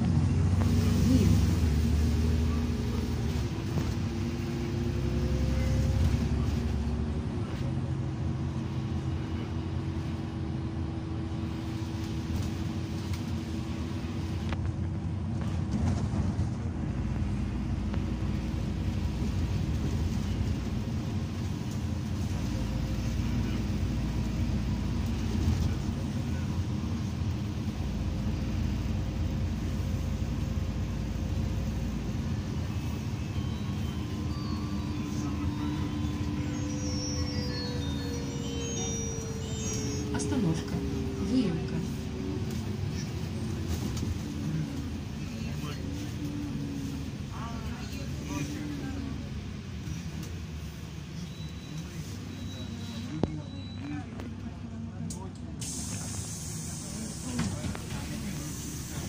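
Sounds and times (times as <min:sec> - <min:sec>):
bus engine drone: 0:00.0 - 0:59.0
road rumble: 0:00.0 - 0:59.0.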